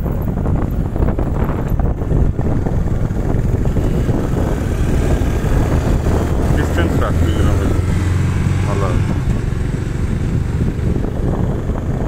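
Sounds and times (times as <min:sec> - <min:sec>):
motorcycle low rumble: 0:00.0 - 0:12.0
wind rushing over microphone: 0:00.0 - 0:12.0.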